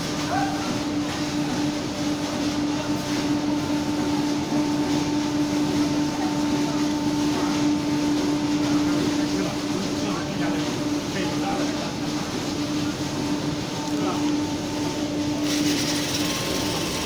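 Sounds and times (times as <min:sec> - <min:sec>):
conveyor machinery running: 0:00.0 - 0:17.0.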